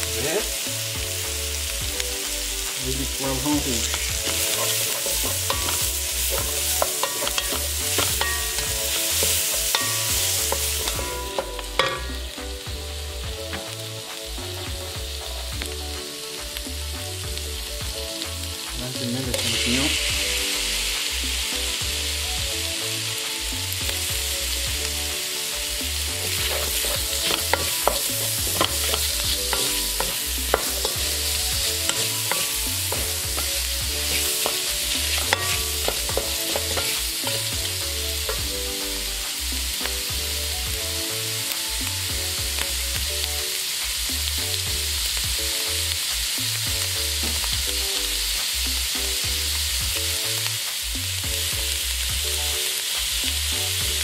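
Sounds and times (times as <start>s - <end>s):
vegetables sizzling in wok: 0.0s - 54.0s.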